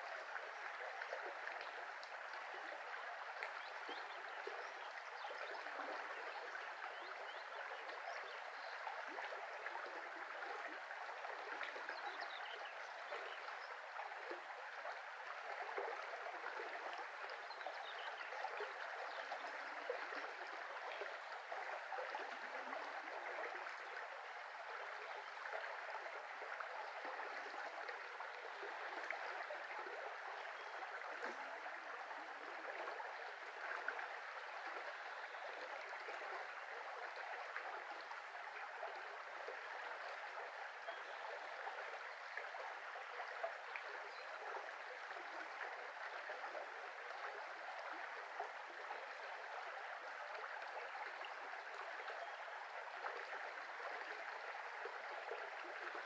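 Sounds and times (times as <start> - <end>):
brook flowing: 0.0 - 56.0.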